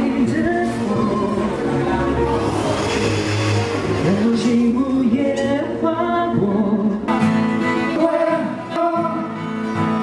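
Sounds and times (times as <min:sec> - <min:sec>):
music with singing voice: 0:00.0 - 0:10.0.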